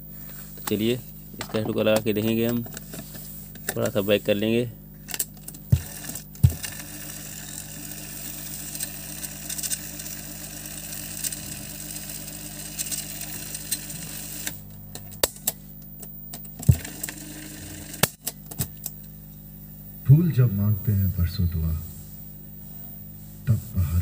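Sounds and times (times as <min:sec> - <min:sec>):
cassette motor and spools whirring: 0:00.0 - 0:24.0.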